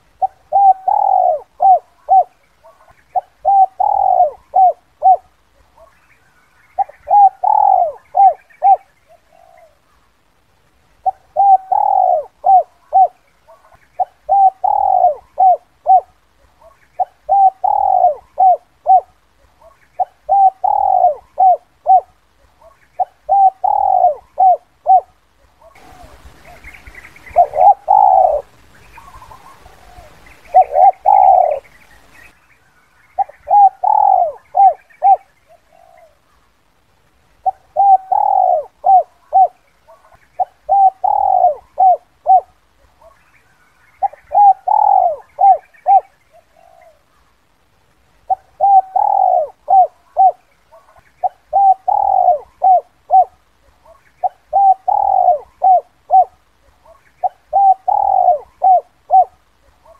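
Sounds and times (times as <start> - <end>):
dove cooing: 0.0 - 10.0, 11.0 - 32.1, 33.1 - 36.4, 37.4 - 43.3, 43.9 - 47.3, 48.2 - 59.9.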